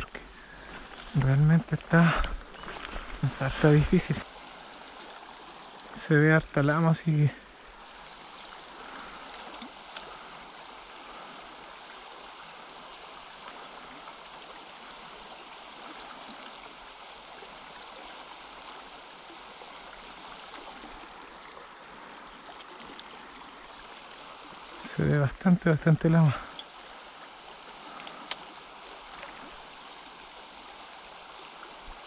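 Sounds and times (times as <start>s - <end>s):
stream flowing: 0.0s - 32.0s.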